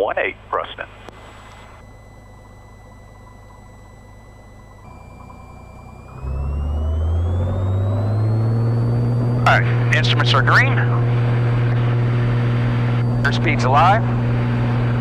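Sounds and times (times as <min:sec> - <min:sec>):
airplane engine and propeller: 0:00.0 - 0:15.0.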